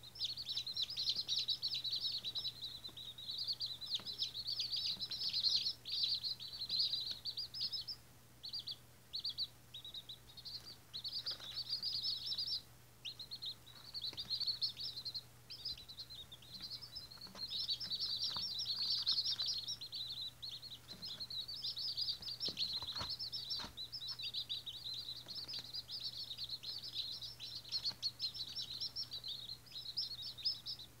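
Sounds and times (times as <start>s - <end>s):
chicks peeping: 0.0s - 31.0s
faint steady hum: 0.0s - 31.0s.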